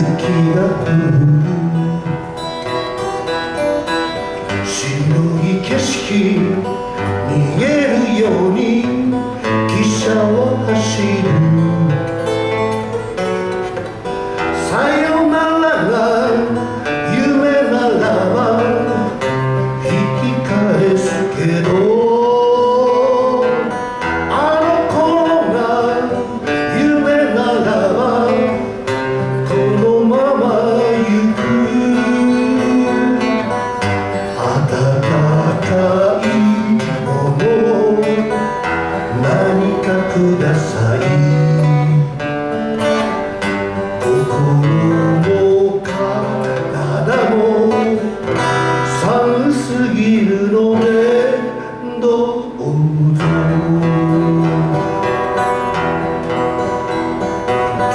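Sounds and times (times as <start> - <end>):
person singing: 0.0 - 3.3, 4.0 - 13.0, 14.6 - 43.2, 43.8 - 55.6
acoustic guitars playing: 0.0 - 57.9.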